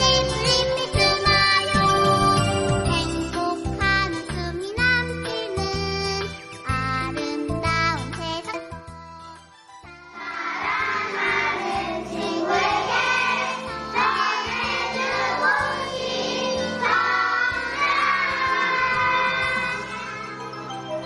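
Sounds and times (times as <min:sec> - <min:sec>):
child singing: 0:00.0 - 0:09.3, 0:10.2 - 0:20.4
instrumental backing music: 0:00.0 - 0:21.0.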